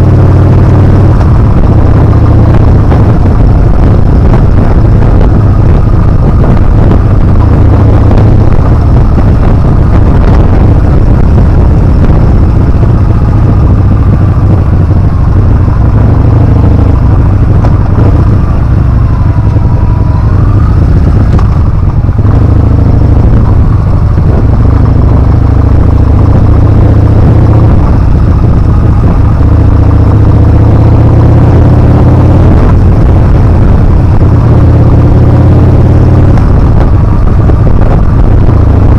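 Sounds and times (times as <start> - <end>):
motorcycle engine: 0.0 - 38.9
wind buffeting microphone: 0.0 - 38.9.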